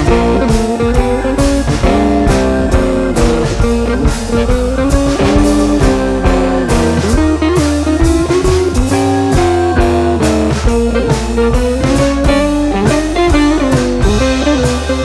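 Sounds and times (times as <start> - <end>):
drum kit beat: 0.0 - 15.0
guitar music: 0.0 - 15.0.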